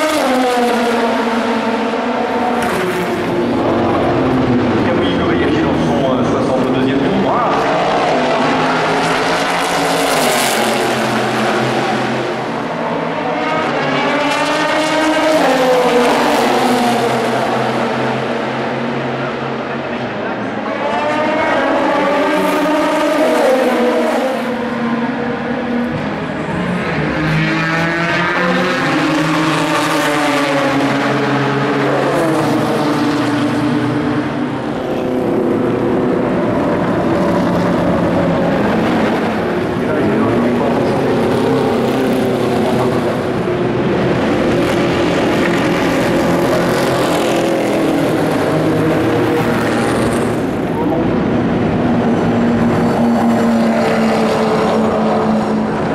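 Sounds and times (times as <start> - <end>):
racing cars passing at speed: 0.0 - 55.9.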